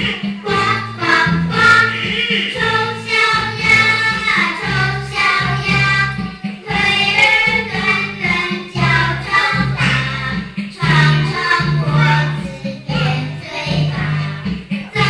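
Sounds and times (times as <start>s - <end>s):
children singing together: 0.0s - 15.0s
music accompaniment: 0.0s - 15.0s.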